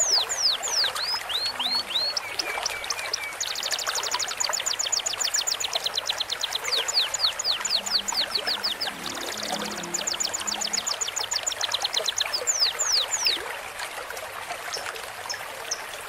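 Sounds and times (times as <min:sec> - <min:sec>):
songbirds trilling and whistling: 0:00.0 - 0:13.4
running stream: 0:00.0 - 0:16.0.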